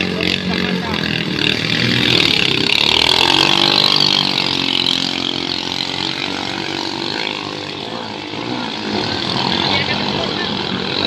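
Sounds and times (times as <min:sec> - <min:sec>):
boat engines at full throttle: 0:00.0 - 0:11.0.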